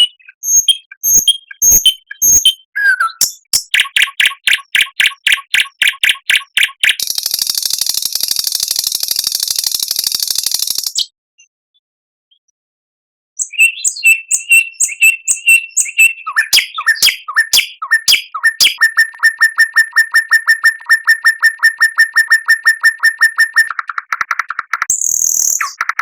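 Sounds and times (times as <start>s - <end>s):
songbird singing: 0.0s - 11.5s, 13.4s - 23.8s, 24.7s - 26.0s.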